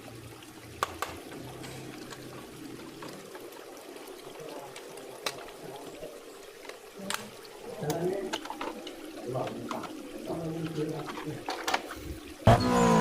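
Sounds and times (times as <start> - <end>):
water trickling and pouring: 0.0 - 13.0.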